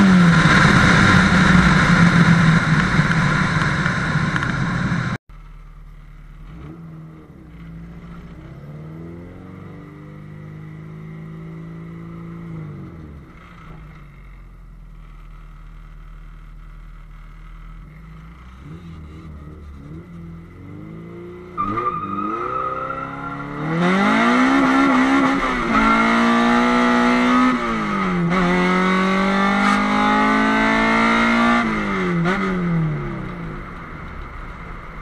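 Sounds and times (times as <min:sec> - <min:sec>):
car engine revving: 0:00.0 - 0:05.2, 0:05.9 - 0:35.0.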